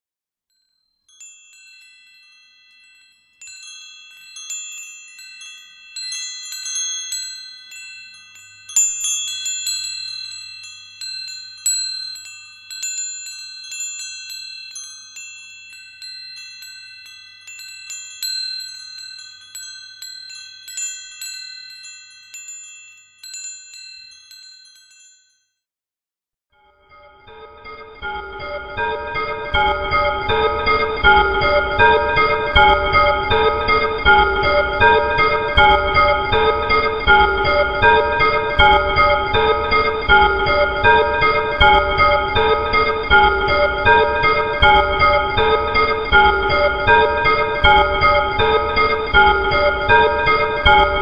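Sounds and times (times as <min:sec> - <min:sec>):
wind chimes tinkling: 0:00.5 - 0:25.6, 0:26.9 - 0:51.0.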